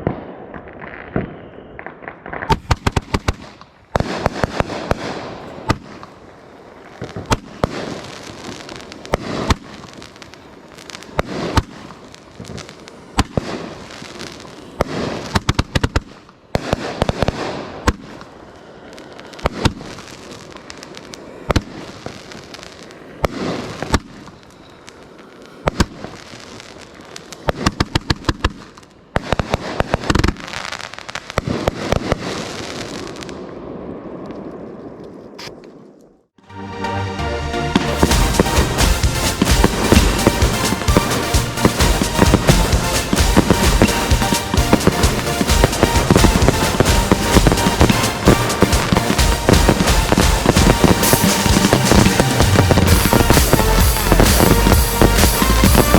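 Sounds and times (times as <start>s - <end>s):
fireworks cake firing shots: 0.0s - 18.3s, 19.3s - 24.4s, 25.6s - 33.3s, 38.0s - 55.9s
fireworks shells crackling and rumbling: 0.0s - 36.4s, 37.8s - 55.9s.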